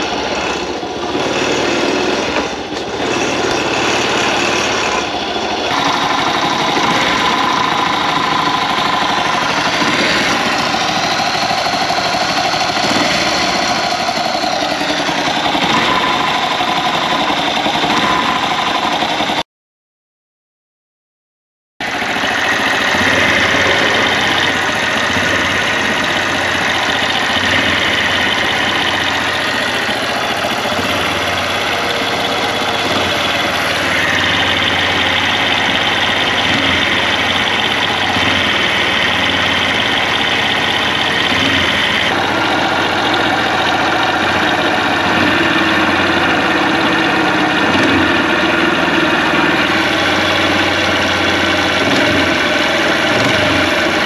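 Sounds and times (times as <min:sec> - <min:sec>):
abnormal mechanical noise: 0:00.0 - 0:19.4, 0:21.8 - 0:54.0
small motorcycle engine idling: 0:00.0 - 0:19.4, 0:21.8 - 0:54.0.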